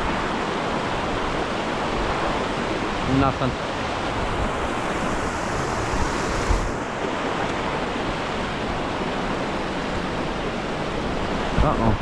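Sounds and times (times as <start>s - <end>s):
fast-flowing river water rushing: 0.1s - 11.5s.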